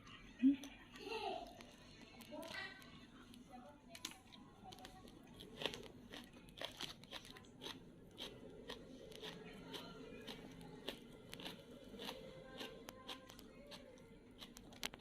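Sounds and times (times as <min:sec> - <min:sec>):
person chewing and crunching food: 0:00.0 - 0:15.0.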